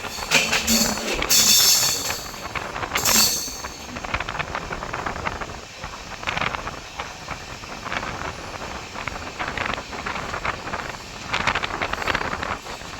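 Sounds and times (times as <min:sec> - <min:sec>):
passenger train rattling: 0:00.0 - 0:12.9.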